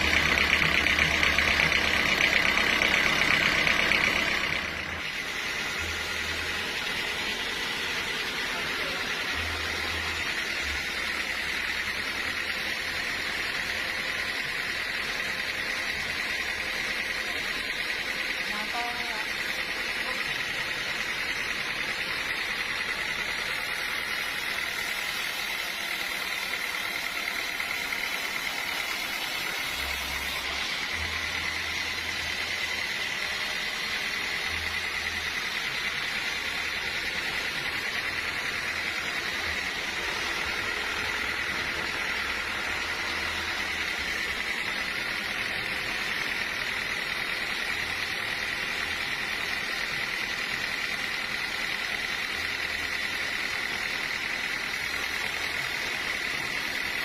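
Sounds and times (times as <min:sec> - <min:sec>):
sawmill machinery whining: 0:00.0 - 0:57.0.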